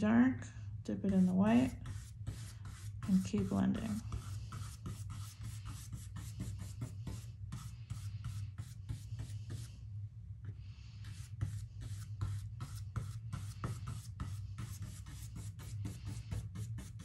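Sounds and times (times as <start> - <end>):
paintbrush scrubbing on canvas: 1.0 - 9.9, 10.6 - 17.0.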